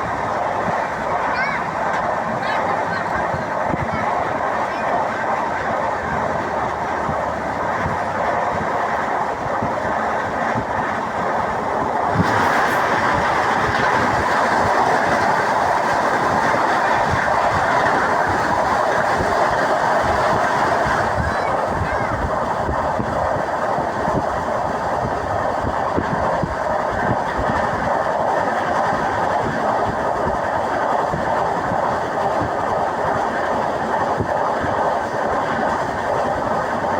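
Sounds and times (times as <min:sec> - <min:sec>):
train coach rumble and rattle: 0:00.0 - 0:36.9.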